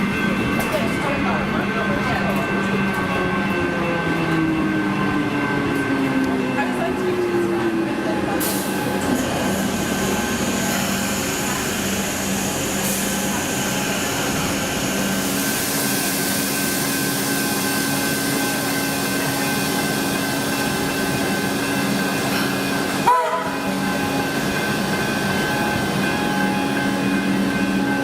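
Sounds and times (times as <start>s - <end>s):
train rail noise: 0.0s - 28.0s.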